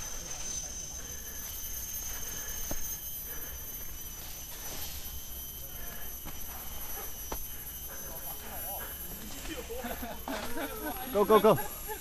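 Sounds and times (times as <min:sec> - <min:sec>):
insect buzz: 0:00.0 - 0:12.0.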